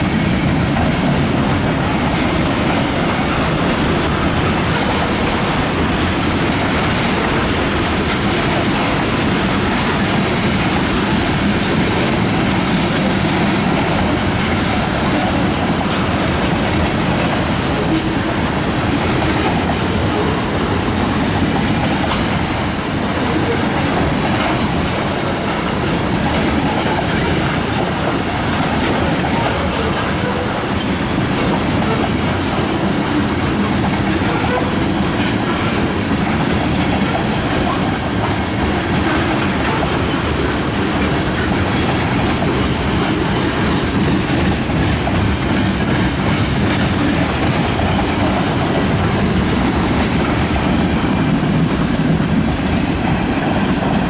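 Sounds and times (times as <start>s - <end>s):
train wheels clattering over rail joints: 0.0s - 54.0s.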